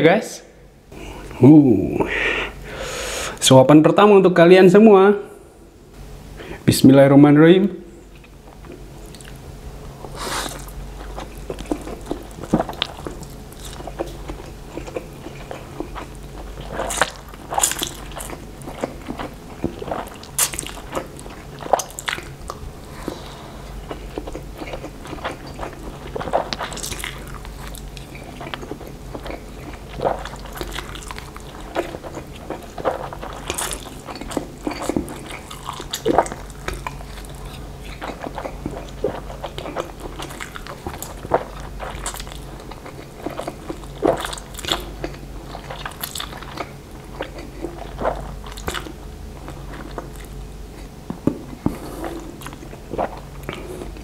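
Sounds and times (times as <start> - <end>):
faint low hum: 0.0 - 54.0
man chewing: 8.0 - 54.0.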